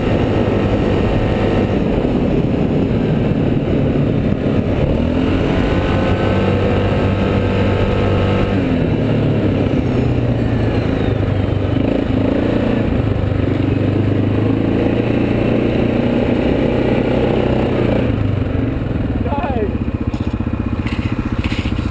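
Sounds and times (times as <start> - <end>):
off-road vehicle engine running: 0.0 - 21.9.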